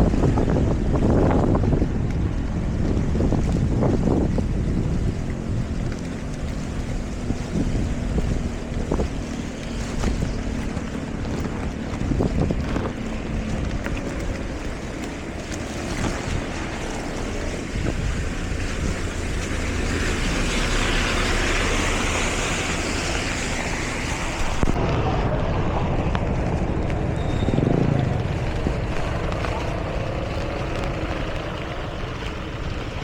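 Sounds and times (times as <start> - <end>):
vehicle engine rumble: 0.0 - 33.0
water rushing and splashing: 0.0 - 33.0
wind buffeting microphone: 0.0 - 33.0.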